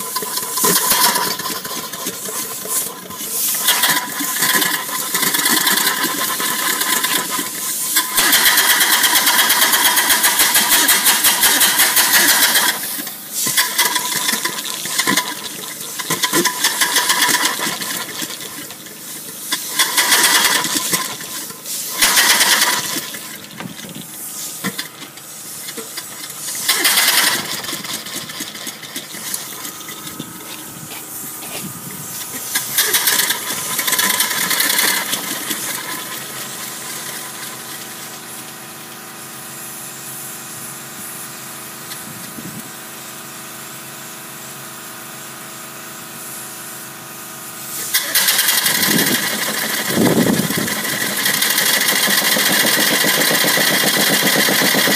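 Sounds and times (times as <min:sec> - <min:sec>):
loud steam hiss: 0:00.0 - 0:28.2, 0:29.2 - 0:38.4, 0:47.6 - 0:54.9
steam engine running: 0:00.0 - 0:39.7, 0:47.6 - 0:54.9.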